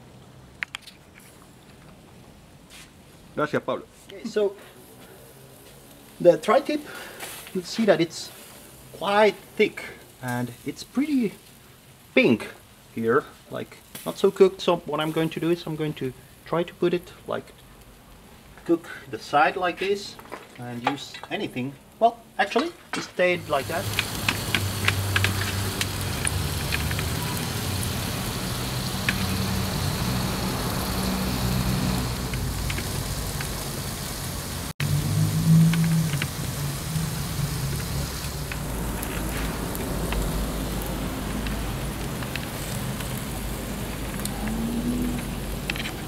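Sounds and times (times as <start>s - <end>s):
coals crackling and popping: 0.2s - 3.2s, 4.0s - 46.0s
meat sizzling on a grill: 4.4s - 20.1s, 23.2s - 46.0s.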